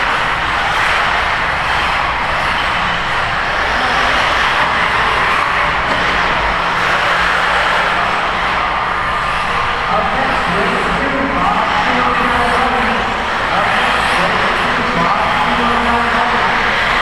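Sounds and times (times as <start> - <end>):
rc cars racing: 0.0 - 17.0.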